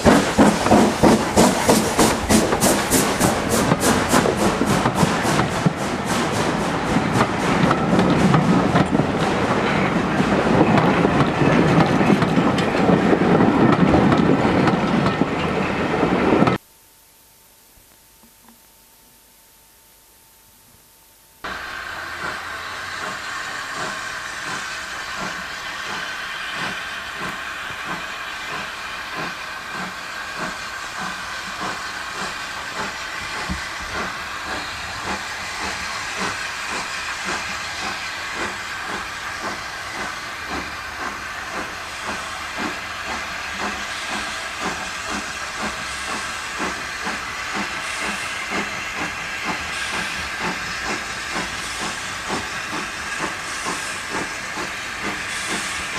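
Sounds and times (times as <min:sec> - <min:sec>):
steam hissing: 0:00.0 - 0:16.4, 0:21.4 - 0:55.9
steam locomotive exhaust beats: 0:00.0 - 0:16.6, 0:21.4 - 0:55.9.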